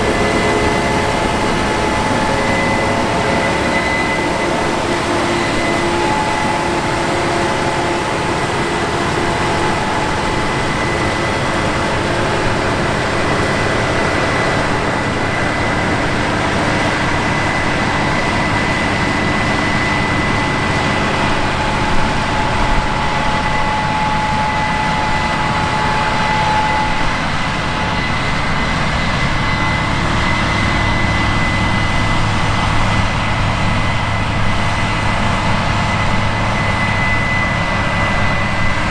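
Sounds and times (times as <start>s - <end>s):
diesel farm machinery running: 0.0s - 38.9s
steady high whine: 0.0s - 38.9s.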